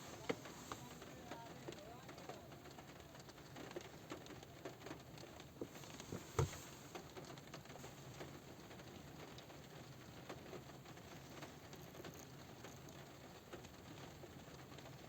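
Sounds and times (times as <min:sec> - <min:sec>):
rain pattering on car roof: 0:00.0 - 0:15.0.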